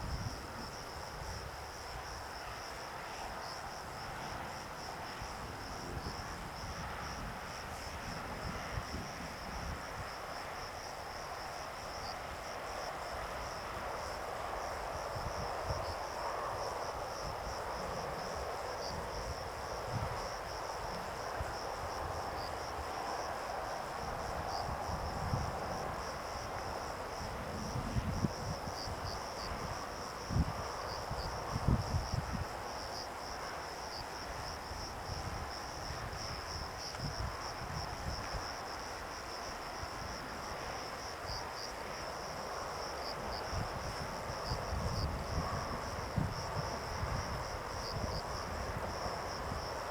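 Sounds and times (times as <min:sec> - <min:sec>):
crickets chirping: 0:00.0 - 0:49.9
soft outdoor hiss: 0:00.0 - 0:49.9.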